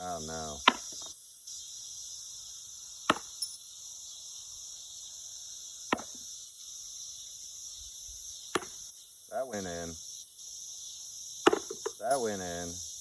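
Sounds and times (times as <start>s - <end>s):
cicada chorus drone: 0.0s - 13.0s.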